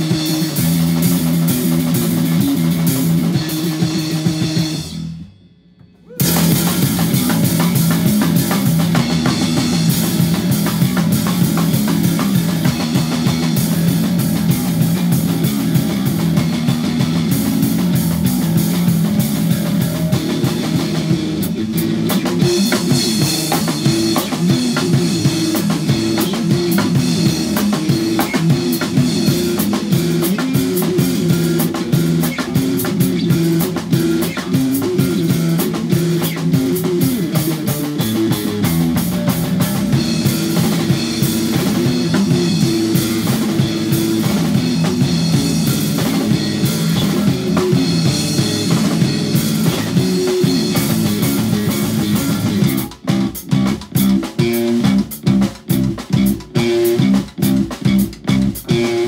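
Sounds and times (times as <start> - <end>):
fast electric bass riffs: 0.0 - 5.2, 6.1 - 59.0
rapid drumming with cymbals: 0.0 - 59.0.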